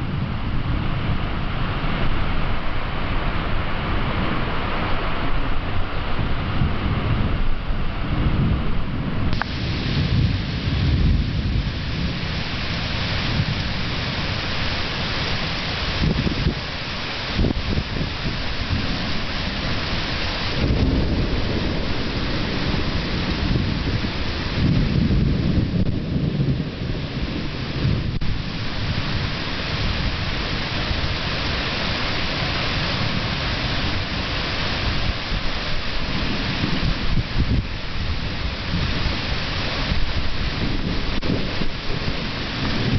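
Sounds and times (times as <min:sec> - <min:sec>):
low rumbling thunder: 0:00.0 - 0:42.9
rain hiss: 0:00.0 - 0:42.9.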